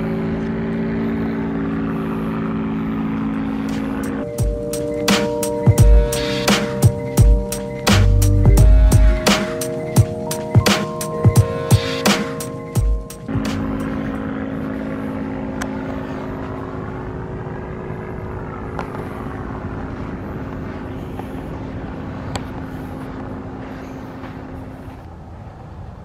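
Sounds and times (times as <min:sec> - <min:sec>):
low droning hum: 0:00.0 - 0:25.2
steady rumbling noise: 0:00.0 - 0:26.0.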